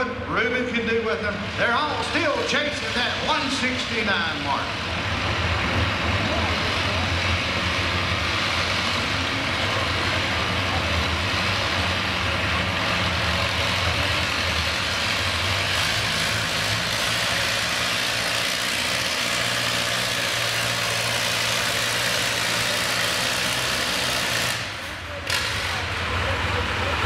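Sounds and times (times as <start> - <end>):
tractor engine idling: 1.2 - 27.0.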